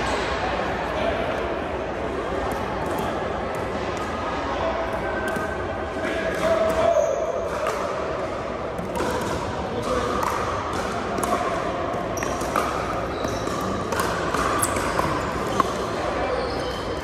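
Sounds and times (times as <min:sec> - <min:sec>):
background chatter: 0:00.0 - 0:17.0.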